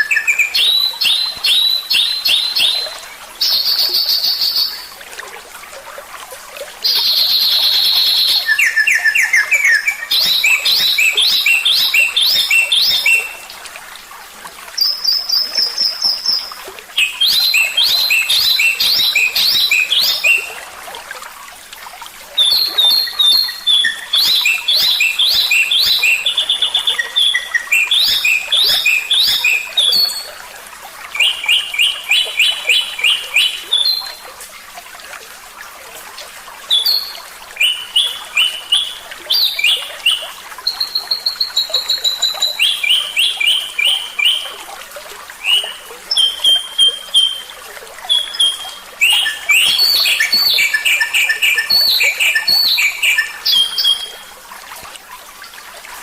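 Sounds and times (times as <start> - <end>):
songbird chirping and trilling: 0.0 - 4.9, 6.9 - 13.4, 14.8 - 20.6, 22.4 - 30.4, 31.1 - 34.2, 36.7 - 44.6, 45.4 - 54.3.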